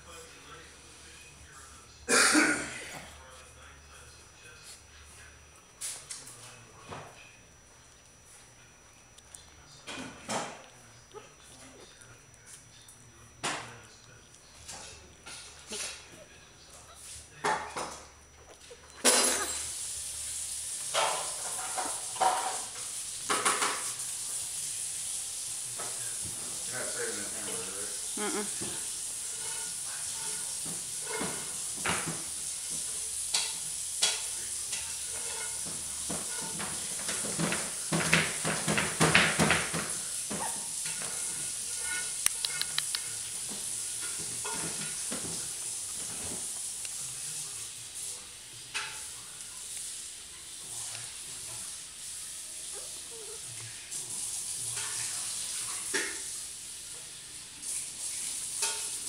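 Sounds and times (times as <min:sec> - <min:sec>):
steady hiss: 0:00.0 - 0:18.3, 0:19.0 - 0:59.0.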